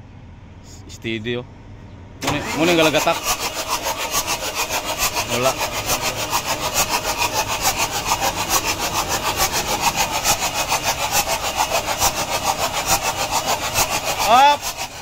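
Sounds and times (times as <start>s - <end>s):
diesel truck engine idling: 0.1s - 15.0s.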